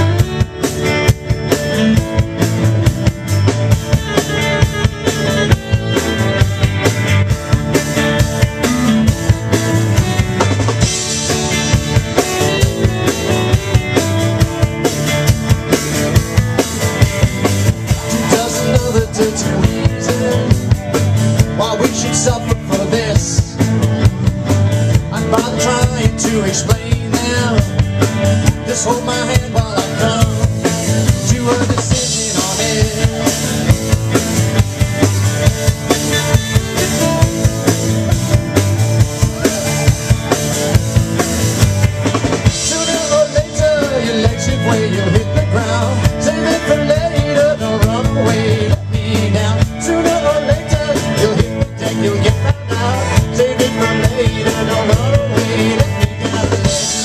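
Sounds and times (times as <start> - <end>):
drum kit beat: 0.0 - 57.0
live rock band playing: 0.0 - 57.0.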